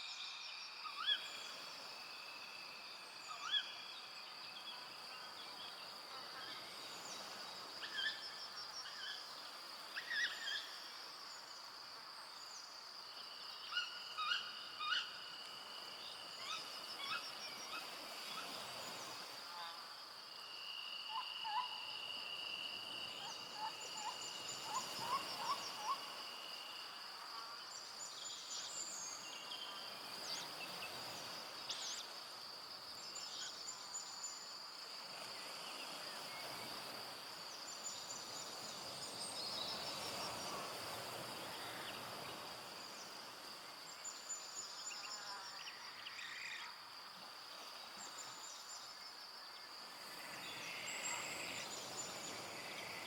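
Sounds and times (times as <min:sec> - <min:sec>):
high-pitched insect trill: 0:00.0 - 0:53.0
lower insect trill: 0:00.0 - 0:53.0.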